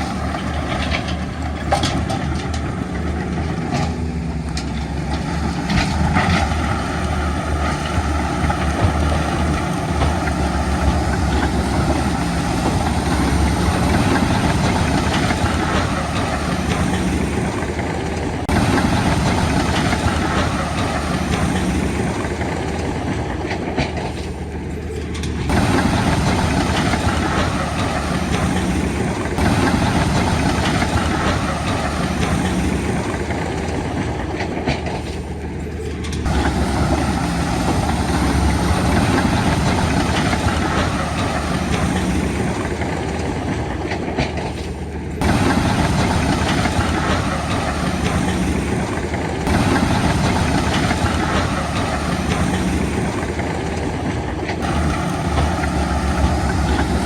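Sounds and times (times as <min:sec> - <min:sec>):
diesel machinery engine rumble: 0:00.0 - 0:57.0.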